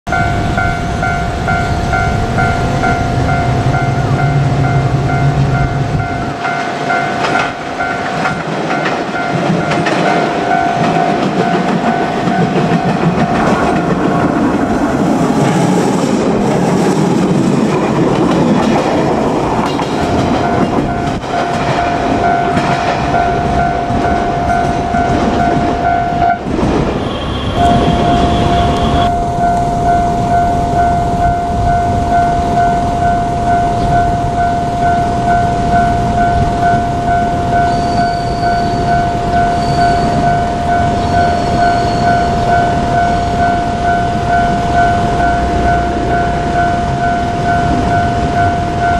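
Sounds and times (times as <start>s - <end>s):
level-crossing warning bell: 0.0s - 48.9s
electric train running: 0.1s - 48.9s.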